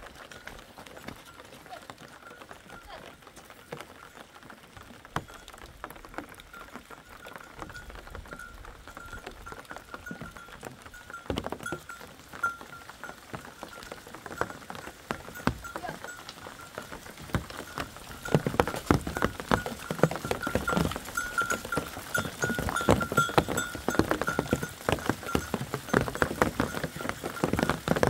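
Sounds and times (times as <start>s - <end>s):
hooves clicking on stones: 0.0s - 28.0s
light rain pattering: 0.0s - 28.0s.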